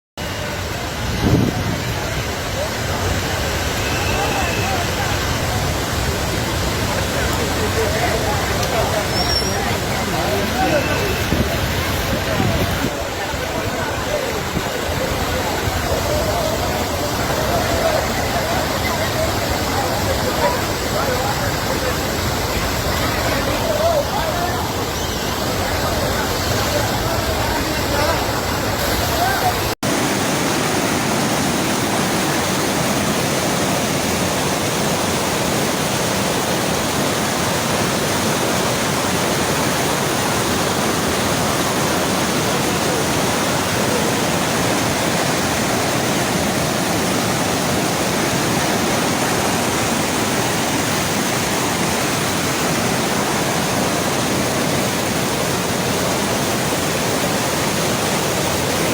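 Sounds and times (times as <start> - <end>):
waterfall rushing: 0.2 - 58.9.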